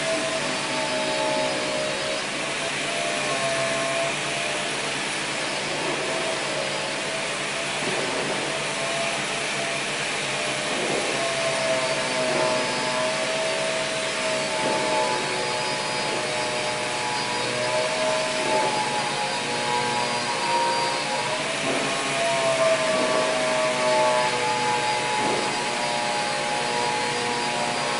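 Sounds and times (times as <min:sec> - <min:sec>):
workshop machinery hiss and whine: 0:00.0 - 0:27.9.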